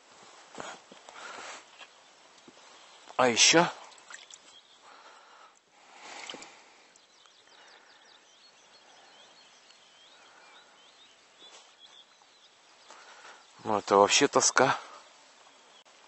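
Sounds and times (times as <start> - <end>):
birds chirping: 0.0 - 16.0
soft outdoor hiss: 0.0 - 16.0.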